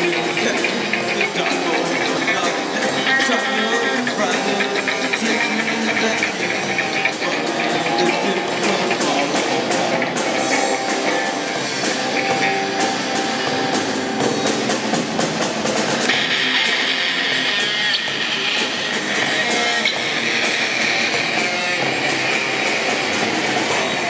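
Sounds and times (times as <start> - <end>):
drum kit steady beat: 0.0 - 24.0
electric guitars: 0.0 - 24.0.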